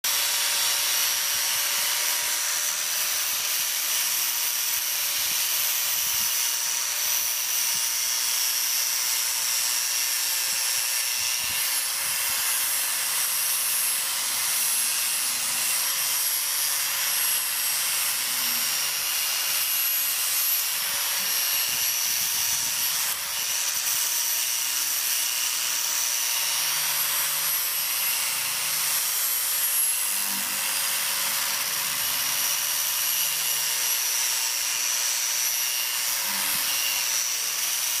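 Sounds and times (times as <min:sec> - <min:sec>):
angle grinder grinding metal: 0:00.0 - 0:38.0.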